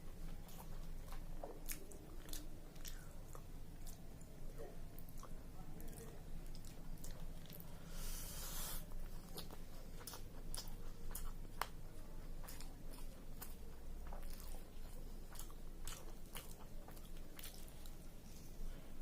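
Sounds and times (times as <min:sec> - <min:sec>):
person chewing food: 0:00.0 - 0:18.6.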